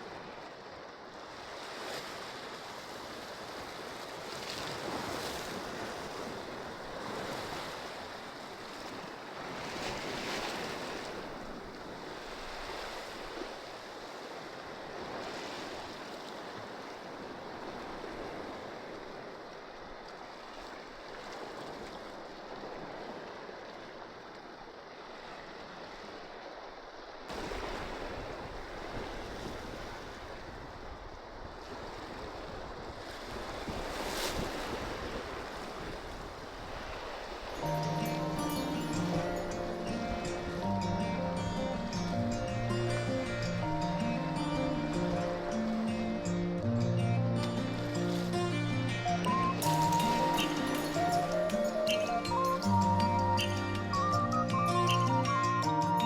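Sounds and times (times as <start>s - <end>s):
sea surf on rocky shore: 0.0s - 56.0s.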